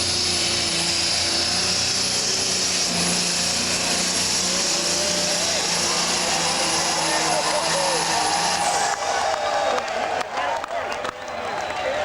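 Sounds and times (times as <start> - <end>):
tractor engine drone with whine: 0.0 - 10.4.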